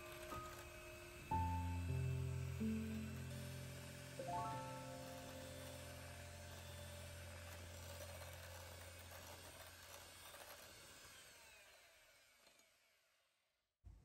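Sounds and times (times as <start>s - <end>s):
electric hand mixer whipping cream: 0.0s - 13.4s.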